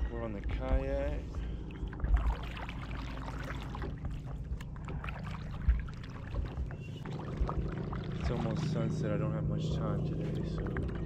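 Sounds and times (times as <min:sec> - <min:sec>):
light water noise: 0:00.0 - 0:11.0
low rumbles: 0:00.0 - 0:11.0.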